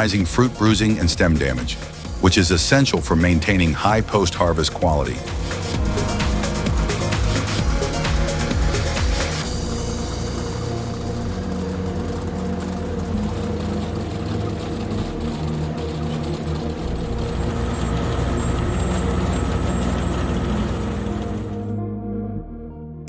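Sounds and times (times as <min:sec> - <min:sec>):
diesel engine running under load: 0:00.0 - 0:21.8
thin high whine: 0:00.0 - 0:21.8.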